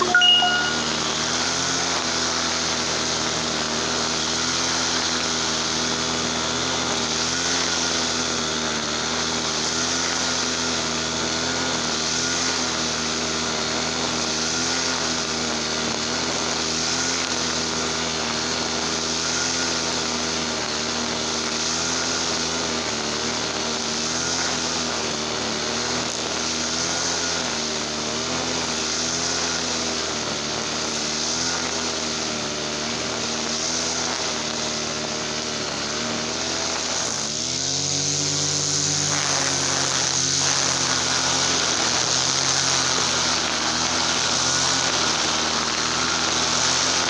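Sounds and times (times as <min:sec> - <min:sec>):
brush cutter engine running: 0:03.0 - 0:47.0.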